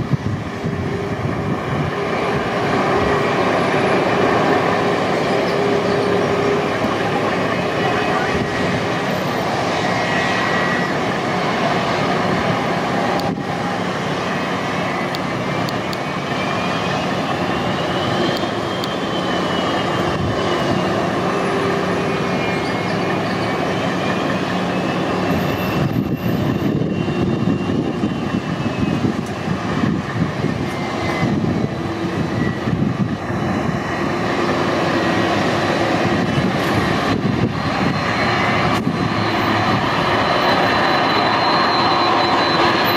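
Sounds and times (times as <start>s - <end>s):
jet engines rumbling and whining: 0.0s - 42.9s.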